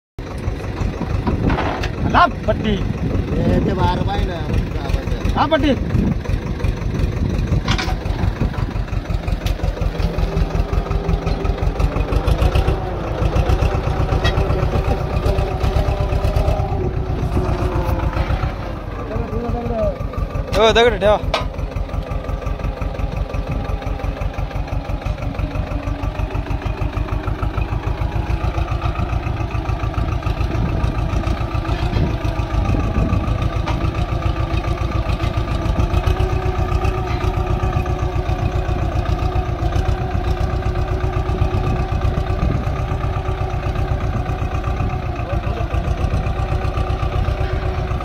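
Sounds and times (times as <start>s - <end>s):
tractor engine running under load: 0.2s - 48.0s.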